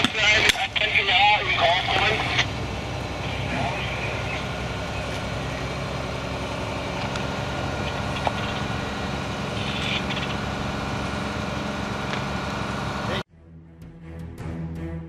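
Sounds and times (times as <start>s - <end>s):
engine idling: 0.0s - 13.2s.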